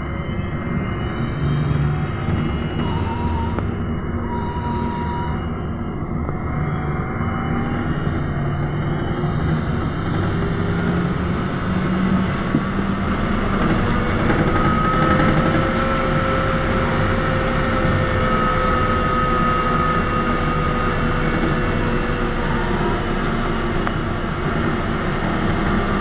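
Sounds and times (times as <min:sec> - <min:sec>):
road and tyre rumble: 0:00.0 - 0:26.0.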